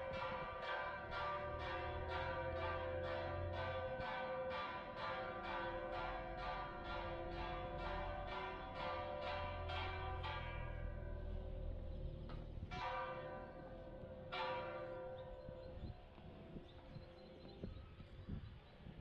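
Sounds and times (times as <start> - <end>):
church bells pealing: 0.0 - 17.4.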